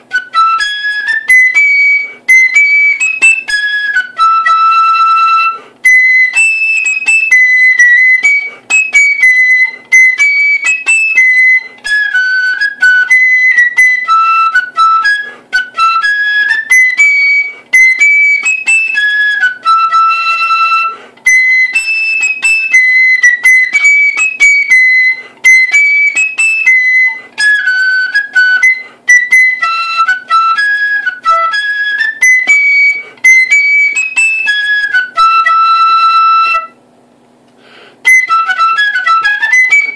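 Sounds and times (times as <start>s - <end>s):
flute playing jig melody: 0.0s - 37.0s, 37.7s - 39.9s.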